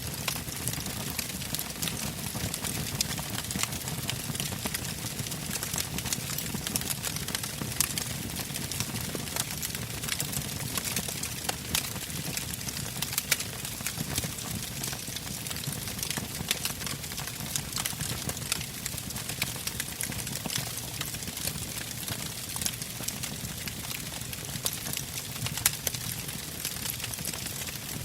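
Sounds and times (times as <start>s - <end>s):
campfire logs crackling and popping: 0.1s - 28.0s
low rumble of flame: 0.1s - 28.0s.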